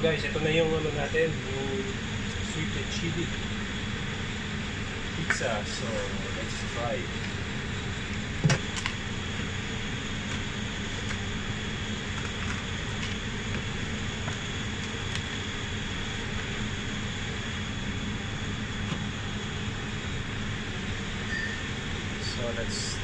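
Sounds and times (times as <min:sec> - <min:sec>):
kitchen ventilation hum: 0:00.0 - 0:23.0
thin high whine: 0:00.0 - 0:23.0.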